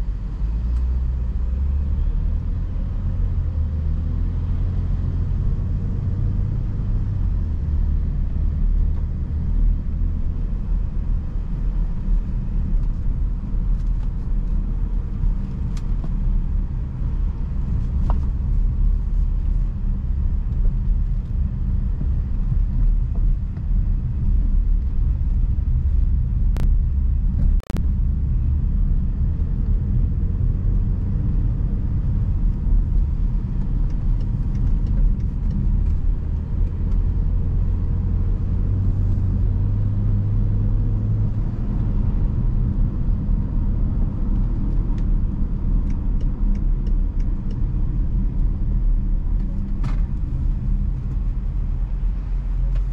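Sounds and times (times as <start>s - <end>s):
engine and road noise: 0.0s - 52.9s.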